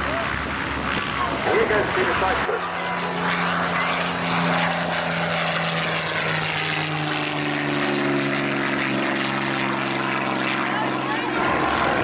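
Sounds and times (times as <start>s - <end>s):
aircraft piston engine passing: 0.0s - 12.0s.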